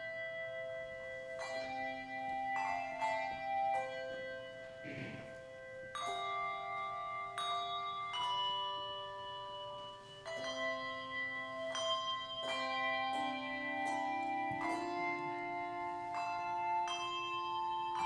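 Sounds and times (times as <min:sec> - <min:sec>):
handbell choir playing: 0:00.0 - 0:18.0.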